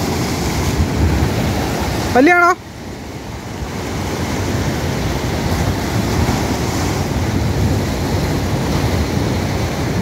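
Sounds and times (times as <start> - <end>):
wind buffeting microphone: 0.0 - 2.2, 2.8 - 10.0
sea waves washing: 0.0 - 10.0.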